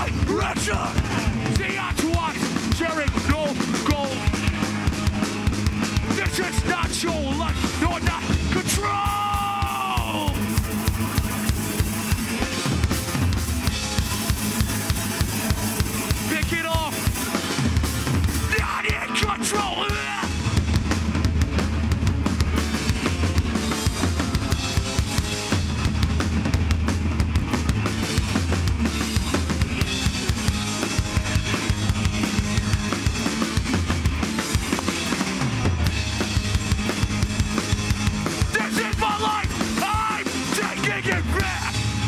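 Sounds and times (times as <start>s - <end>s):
bass guitar: 0.0s - 42.0s
distorted electric guitars: 0.0s - 42.0s
drum kit hitting hard: 0.0s - 42.0s.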